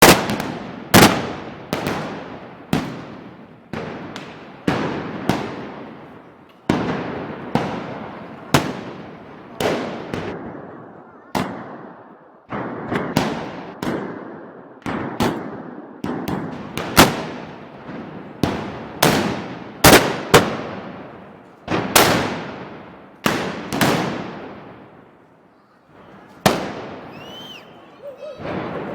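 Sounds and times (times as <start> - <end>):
echoing gunpowder bangs: 0.0 - 25.3, 25.9 - 27.8.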